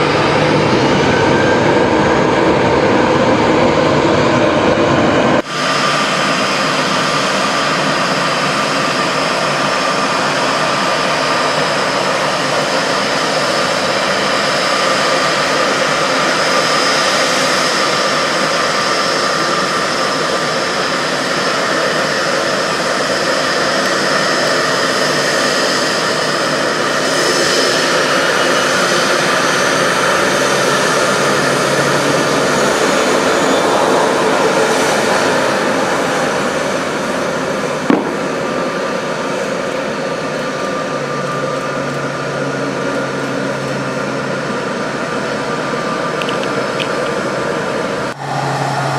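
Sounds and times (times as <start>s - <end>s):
jet engines running: 0.0s - 48.9s.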